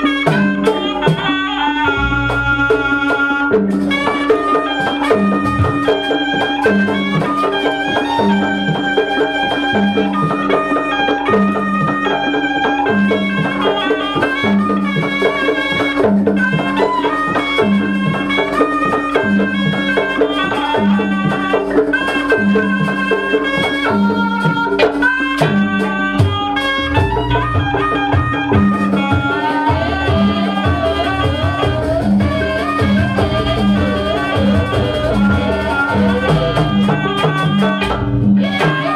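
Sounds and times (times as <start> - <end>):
drums with low beat: 0.0 - 38.9
heavy bass drumming: 0.0 - 38.9
wind instrument melody: 0.0 - 38.9.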